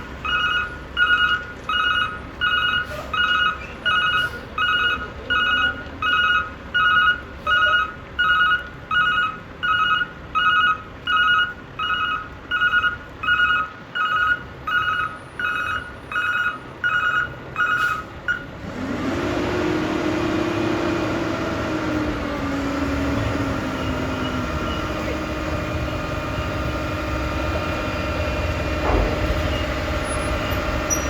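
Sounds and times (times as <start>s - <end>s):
truck mechanical drone: 0.0s - 31.0s
truck reverse alarm beeping: 0.0s - 31.0s.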